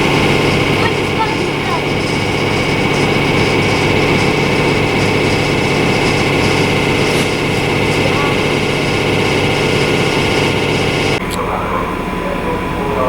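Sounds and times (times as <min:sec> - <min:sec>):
high whine: 0:00.0 - 0:13.0
locomotive engine drone: 0:00.0 - 0:13.0.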